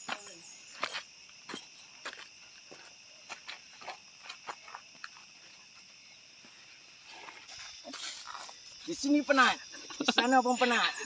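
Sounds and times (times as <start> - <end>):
footsteps on dry dirt trail: 0.0 - 8.9
forest insects droning: 0.0 - 11.0.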